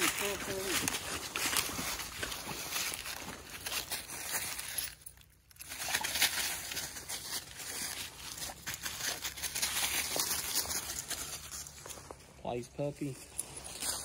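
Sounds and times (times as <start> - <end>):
footsteps on dry leaves: 0.0 - 14.0.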